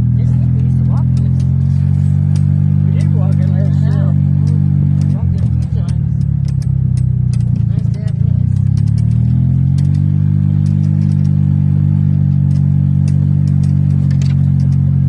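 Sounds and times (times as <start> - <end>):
golf cart motor drone: 0.0 - 15.0
light clicks and rattles: 0.2 - 15.0.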